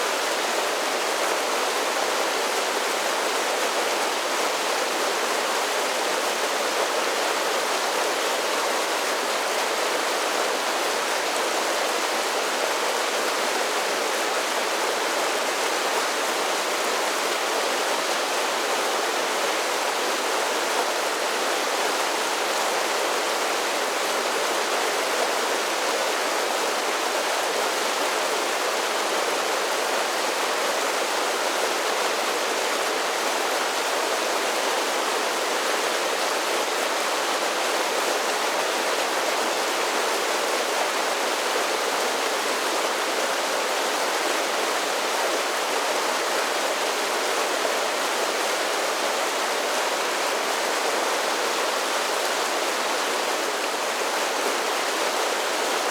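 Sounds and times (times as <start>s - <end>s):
creek water rushing over falls: 0.0s - 55.9s.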